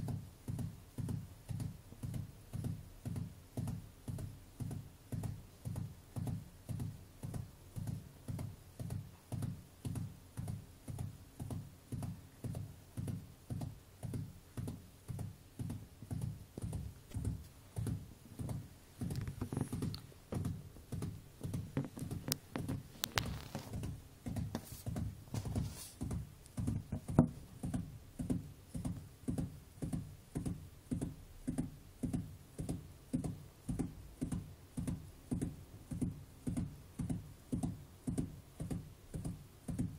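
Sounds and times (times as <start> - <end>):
gerbil drumming hind feet: 0.0 - 39.9.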